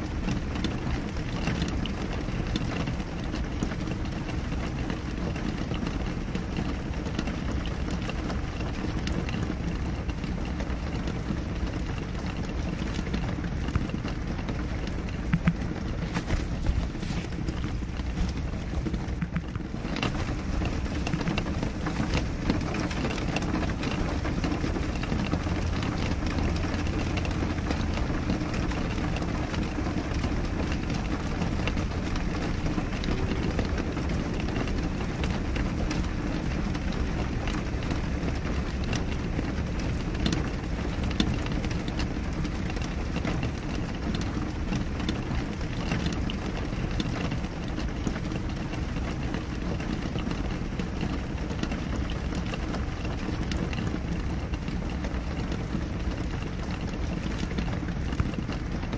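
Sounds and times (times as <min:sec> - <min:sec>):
rain on a window: 0:00.0 - 0:58.9.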